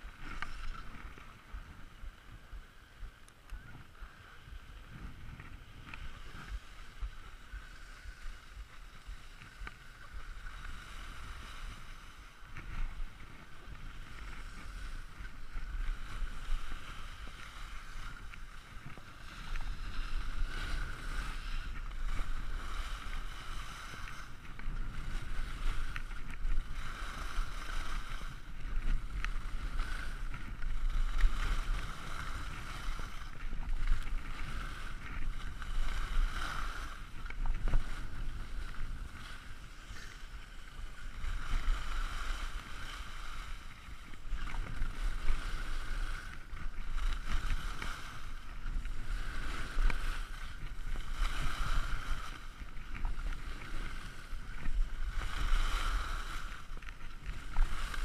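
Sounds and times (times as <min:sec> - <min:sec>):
skis scraping over snow: 0:00.0 - 0:58.0
wind rumble on microphone: 0:00.0 - 0:58.0.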